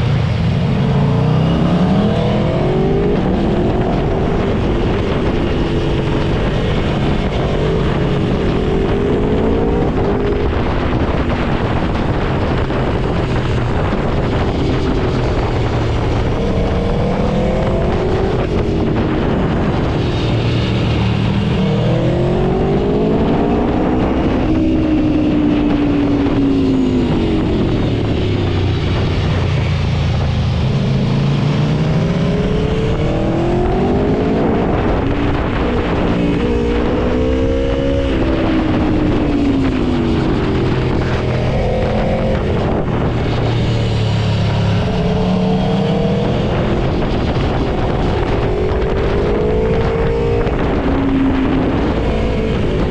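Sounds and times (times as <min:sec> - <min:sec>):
motorcycle engine revving: 0:00.0 - 0:52.9
wind and road noise: 0:00.0 - 0:52.9.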